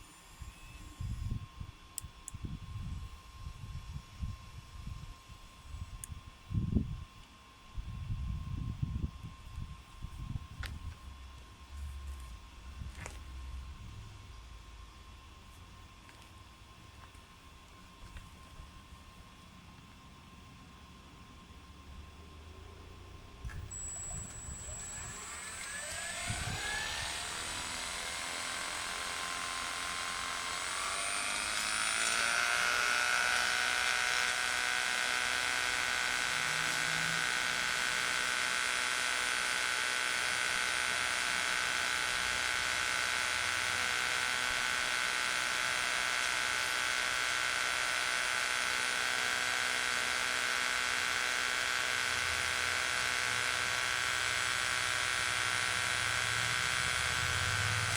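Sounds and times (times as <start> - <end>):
small electric motor whine: 0.0 - 57.9.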